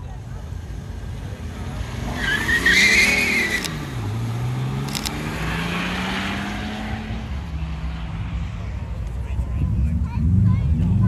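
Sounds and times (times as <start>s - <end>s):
car engine accelerating: 0.2s - 11.0s.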